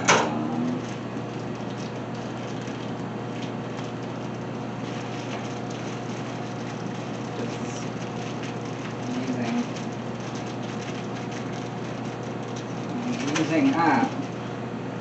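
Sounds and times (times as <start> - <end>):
appliance rushing noise: 0.0 - 15.0
low electrical hum: 0.0 - 15.0
packet and bag rustling: 0.6 - 14.5.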